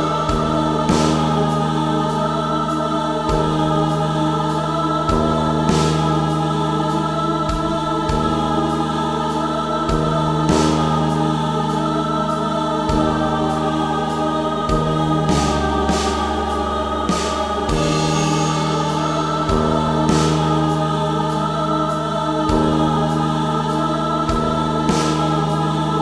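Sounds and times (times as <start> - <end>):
sustained choir voices: 0.0 - 26.0.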